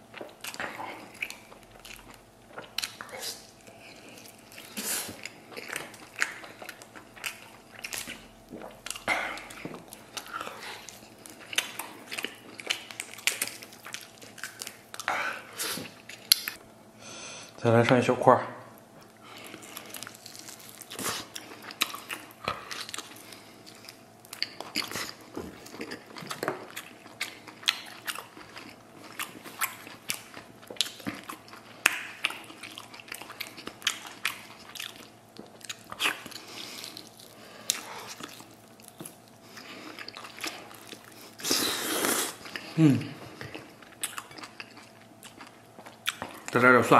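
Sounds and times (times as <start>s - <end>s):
person chewing meat: 0.0s - 16.6s, 18.8s - 46.7s.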